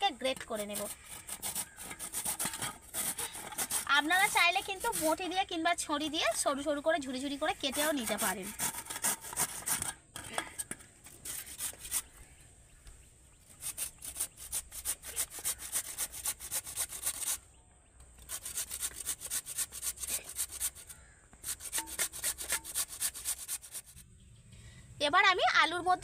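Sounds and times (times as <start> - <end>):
potato grating on metal grater: 0.2 - 10.4, 11.2 - 12.1, 13.6 - 17.4, 18.2 - 24.0.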